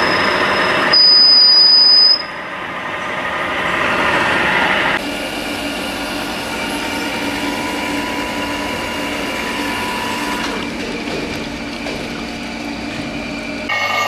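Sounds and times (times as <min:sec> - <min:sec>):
metal lathe cutting steel: 0:02.3 - 0:14.0.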